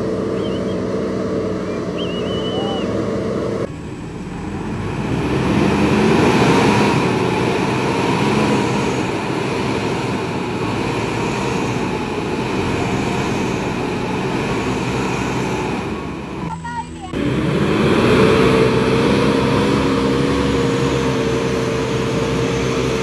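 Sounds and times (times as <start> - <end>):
vehicle engine under load: 0.0 - 23.0.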